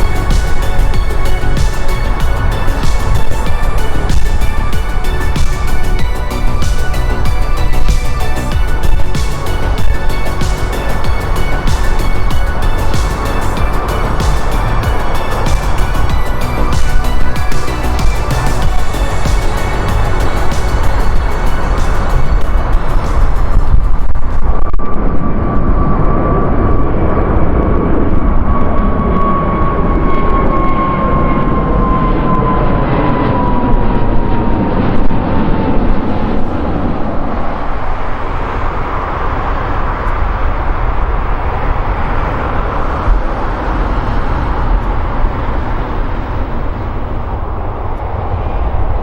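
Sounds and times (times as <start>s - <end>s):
high engine whine: 0.0s - 49.0s
jet airliner passing: 0.0s - 49.0s.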